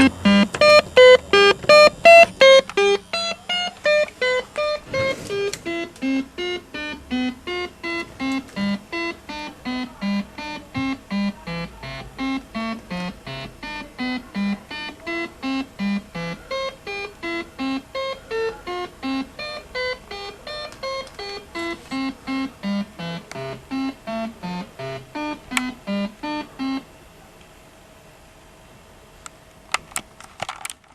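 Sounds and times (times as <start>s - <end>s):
slot machine beeping jingle: 0.0s - 26.8s.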